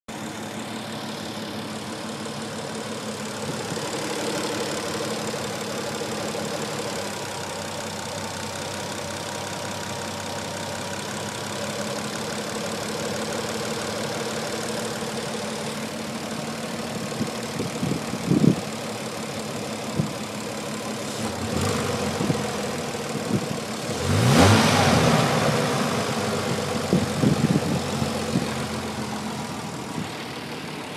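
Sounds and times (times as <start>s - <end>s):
car engine idling with lifter tick: 0.1s - 30.9s.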